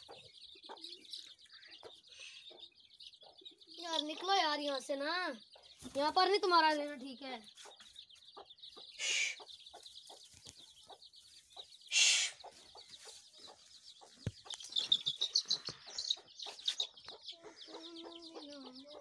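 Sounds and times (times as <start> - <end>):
chickens peeping and clucking: 0.0 - 19.0.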